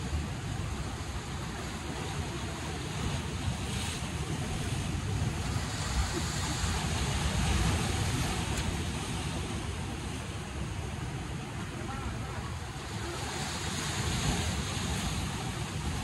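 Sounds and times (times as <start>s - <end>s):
surf breaking on rocks: 0.0s - 16.0s
wind rumbling on microphone: 0.0s - 16.0s.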